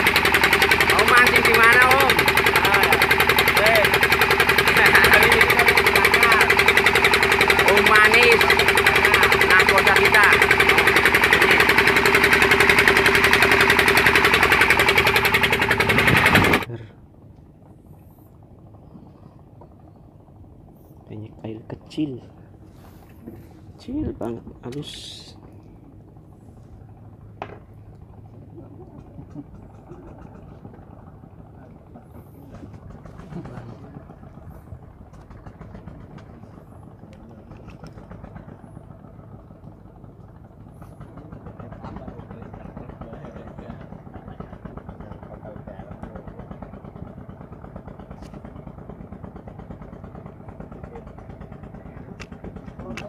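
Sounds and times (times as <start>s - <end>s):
boat engine chugging: 0.0s - 53.0s.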